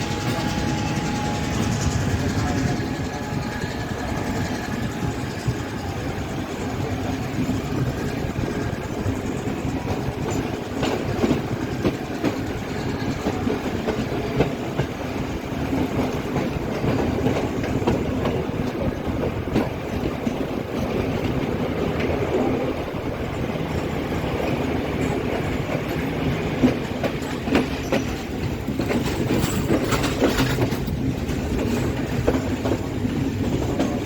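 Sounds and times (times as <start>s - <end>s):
train wheels rumbling on track: 0.0s - 34.0s
wheels clacking over rail joints: 0.0s - 34.0s.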